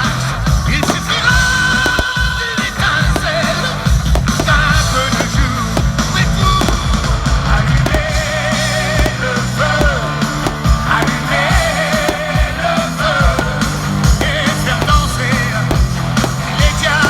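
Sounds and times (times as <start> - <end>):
sharp bangs: 0.7 - 17.0.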